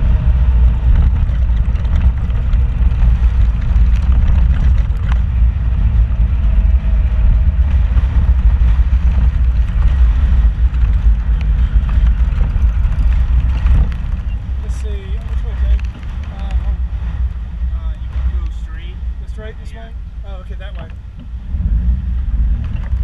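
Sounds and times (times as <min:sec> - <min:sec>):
vehicle rumbling on gravel track: 0:00.0 - 0:23.0
knocks and rattles from bumps: 0:00.6 - 0:18.8, 0:20.6 - 0:21.4.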